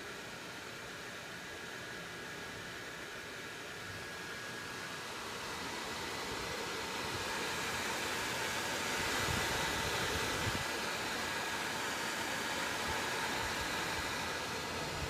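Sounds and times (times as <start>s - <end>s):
computer cooling fan running: 0.0s - 15.0s.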